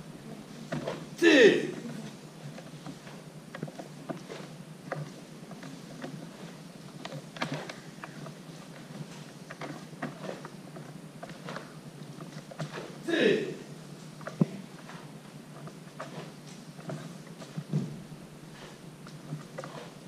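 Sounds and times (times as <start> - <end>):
bare feet on wooden floor: 1.8 - 13.0, 13.9 - 20.0.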